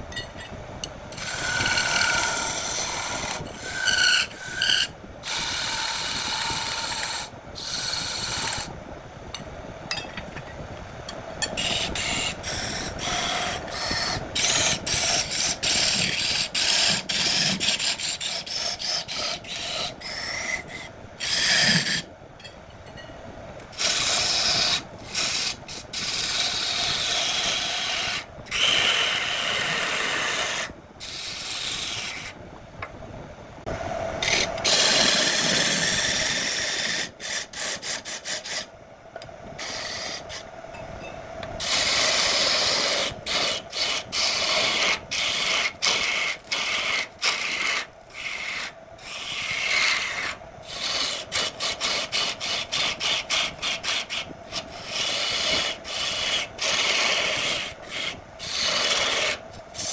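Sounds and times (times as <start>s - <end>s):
wood lathe rasping and scraping: 1.2s - 8.7s, 11.6s - 22.1s, 23.7s - 32.3s, 34.2s - 38.7s, 39.6s - 40.4s, 41.6s - 59.9s.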